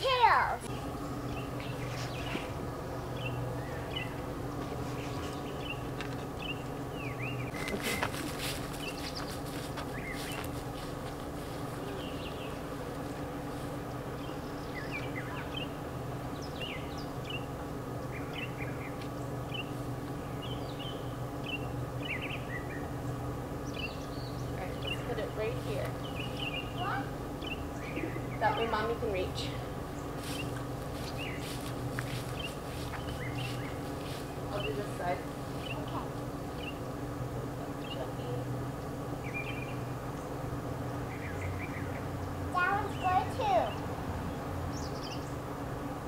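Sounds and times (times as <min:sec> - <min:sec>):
birds chirping: 0:00.0 - 0:45.9
steady low hum: 0:00.0 - 0:46.0.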